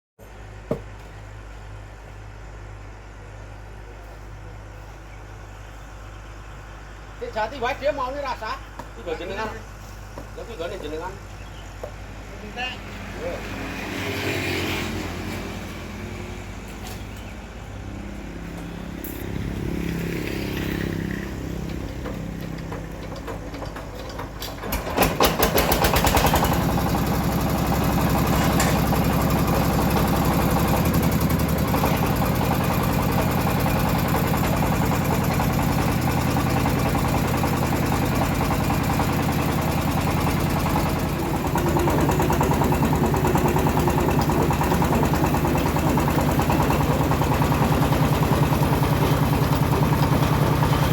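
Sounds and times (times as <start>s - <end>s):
sawmill engine idling and revving: 0.3s - 50.9s.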